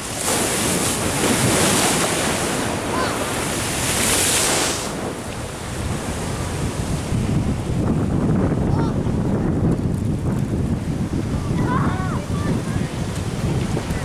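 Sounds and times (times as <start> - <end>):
ocean surf washing in: 0.0 - 14.0
wind on microphone: 0.0 - 14.0.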